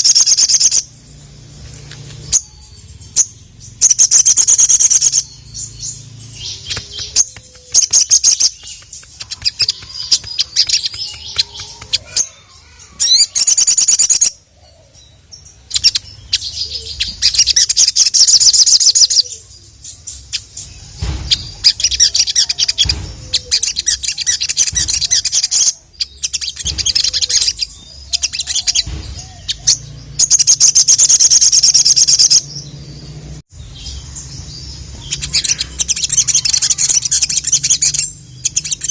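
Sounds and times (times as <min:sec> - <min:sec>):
bird twittering trills: 0:00.0 - 0:38.9.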